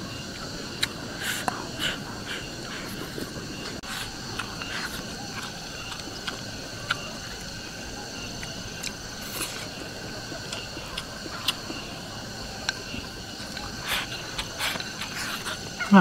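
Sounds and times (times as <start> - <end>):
insects chirring: 0.0 - 16.0
chewing: 0.3 - 16.0.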